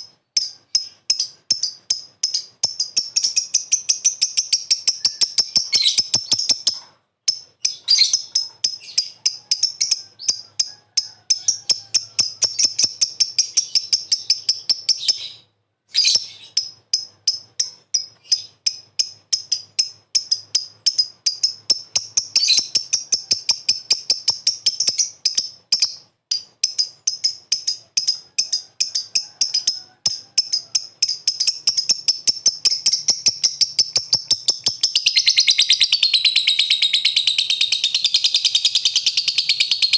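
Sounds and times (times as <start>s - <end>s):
lovebird chattering: 0.0s - 15.4s, 16.0s - 39.9s.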